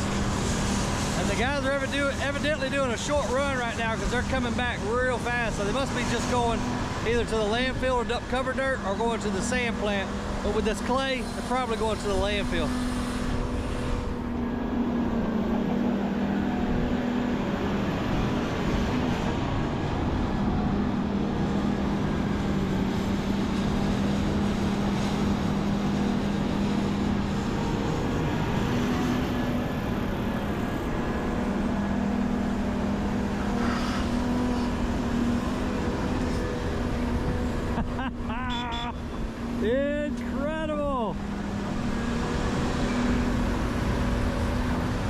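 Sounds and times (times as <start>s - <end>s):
diesel engines running: 0.0s - 45.0s.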